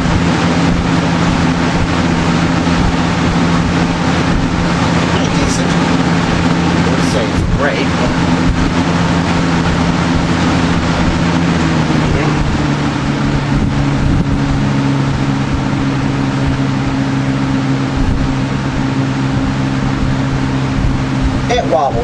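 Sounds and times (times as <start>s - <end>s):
fan air rushing: 0.0s - 22.0s
low motor hum: 0.0s - 22.0s.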